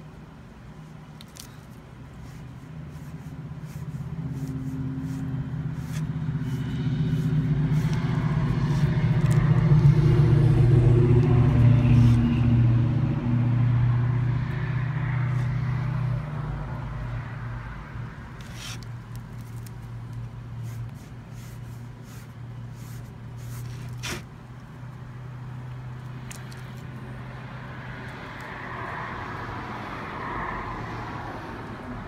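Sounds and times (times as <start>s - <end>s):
vehicle engine passing: 2.2s - 32.0s.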